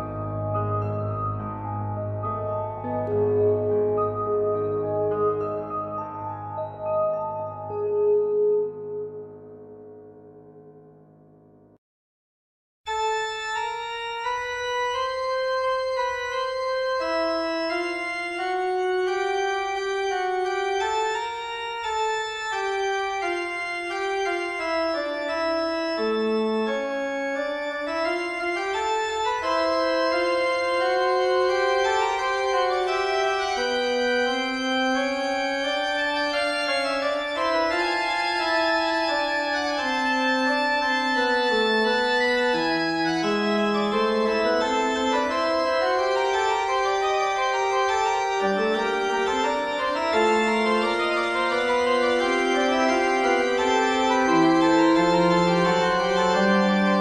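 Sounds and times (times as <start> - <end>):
organ playing fugue: 0.0 - 9.7, 12.9 - 57.0.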